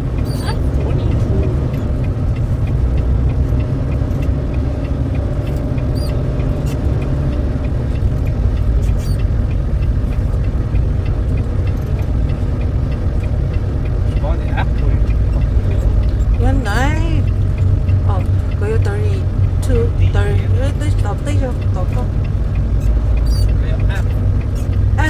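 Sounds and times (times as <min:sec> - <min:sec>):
faint ticking: 0:00.0 - 0:25.0
truck engine and road rumble: 0:00.0 - 0:25.0.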